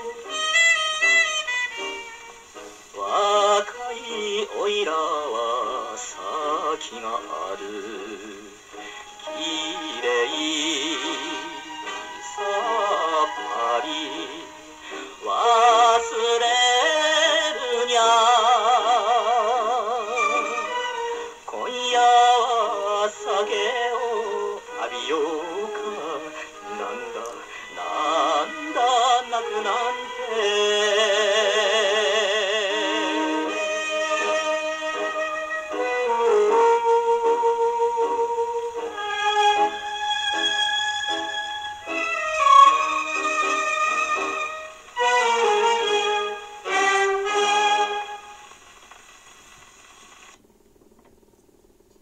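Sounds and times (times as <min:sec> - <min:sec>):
man singing with orchestra: 0:00.0 - 0:48.4
record surface hiss: 0:00.0 - 0:52.0.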